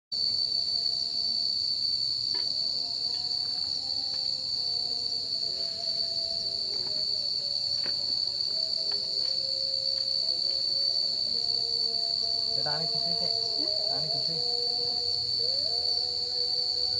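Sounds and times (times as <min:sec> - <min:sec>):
crickets trilling: 0:00.2 - 0:16.9.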